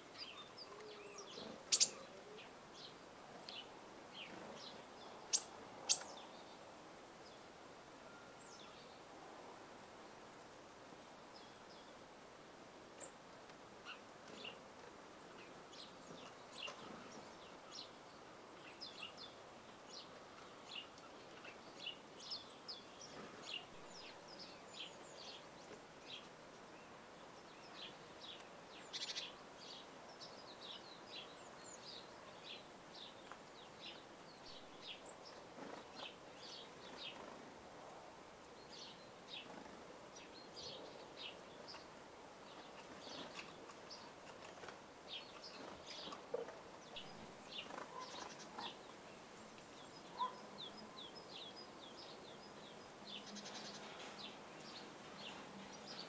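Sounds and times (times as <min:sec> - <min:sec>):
soft background hiss: 0:00.0 - 0:56.0
songbirds chirping: 0:00.0 - 0:56.0.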